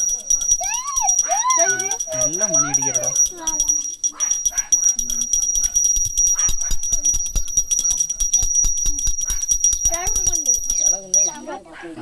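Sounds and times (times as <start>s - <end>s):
hand bell ringing rapidly: 0.0s - 11.6s.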